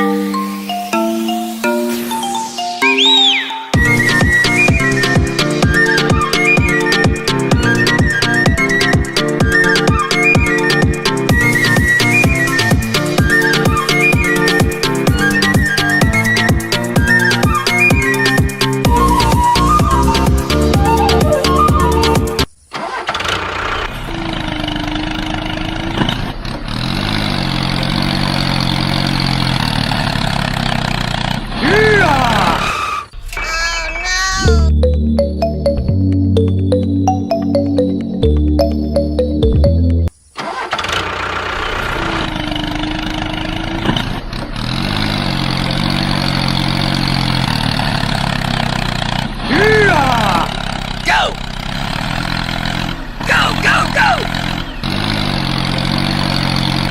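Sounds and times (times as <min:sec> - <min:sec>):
small tractor engine running: 0:02.9 - 0:33.1, 0:40.3 - 0:56.9.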